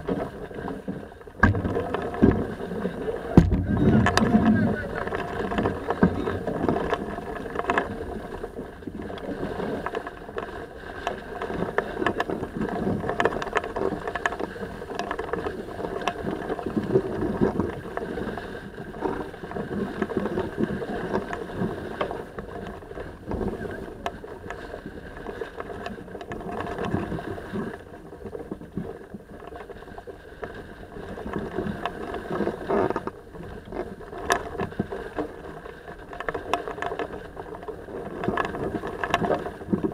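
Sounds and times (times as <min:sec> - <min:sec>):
wind and water rushing: 0:00.0 - 0:39.9.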